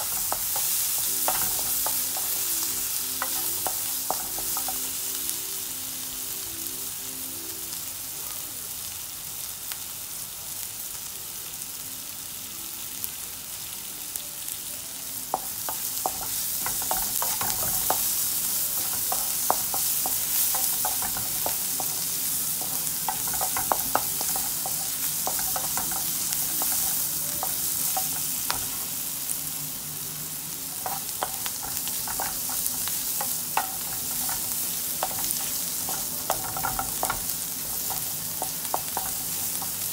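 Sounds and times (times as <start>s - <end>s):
onions sizzling in a frying pan: 0.0s - 39.9s.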